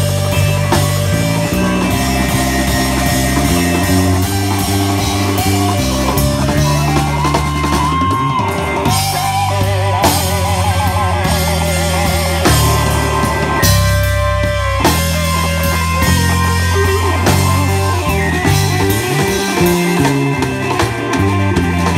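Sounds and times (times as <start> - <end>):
bass guitar: 0.0 - 21.9
drum kit: 0.0 - 21.9
electric guitar lead: 0.0 - 21.9.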